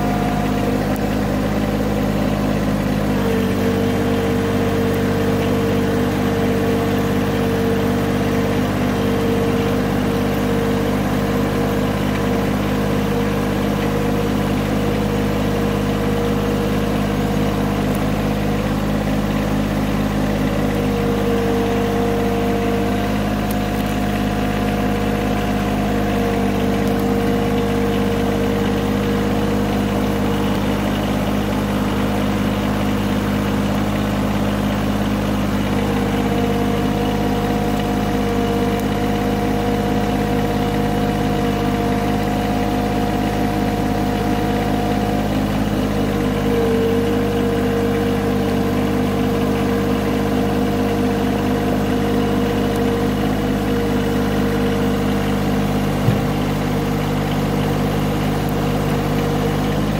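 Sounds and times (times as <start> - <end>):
steady whine shifting pitch: 0.0 - 59.9
tractor engine running: 0.0 - 59.9.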